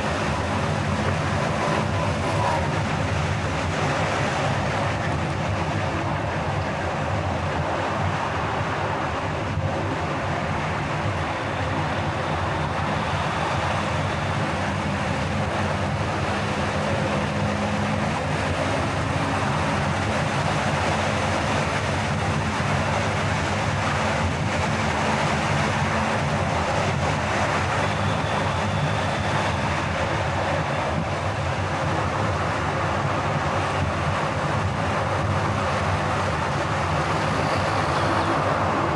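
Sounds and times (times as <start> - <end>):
car tyre and engine rumble: 0.0 - 38.9.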